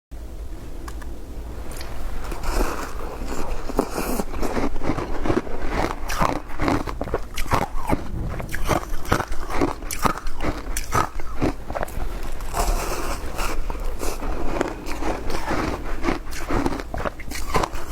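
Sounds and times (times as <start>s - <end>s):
ice crunching: 1.6s - 17.9s.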